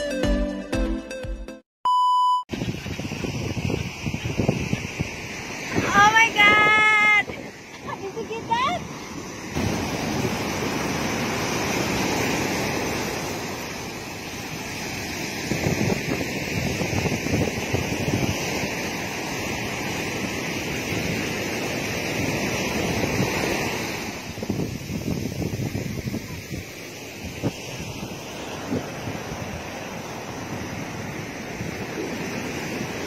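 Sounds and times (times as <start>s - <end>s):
ocean surf on a beach: 2.5s - 33.0s
wind buffeting microphone: 2.5s - 33.0s.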